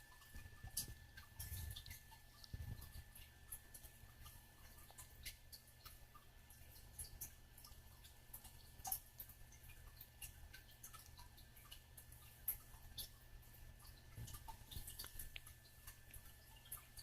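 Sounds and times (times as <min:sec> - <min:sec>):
parakeet beak clicking and nibbling: 0:00.0 - 0:17.0.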